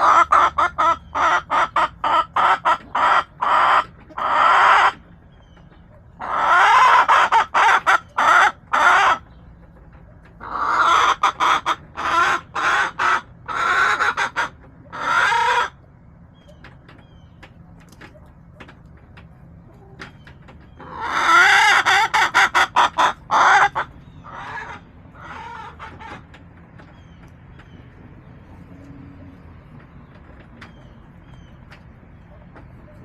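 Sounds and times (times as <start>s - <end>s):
hens clucking and cackling: 0.0s - 33.0s.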